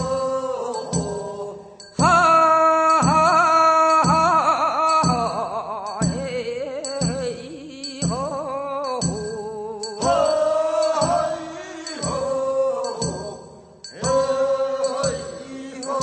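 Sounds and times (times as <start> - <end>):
person singing a wavering lament: 0.0 - 16.0
struck drum beat: 0.0 - 16.0.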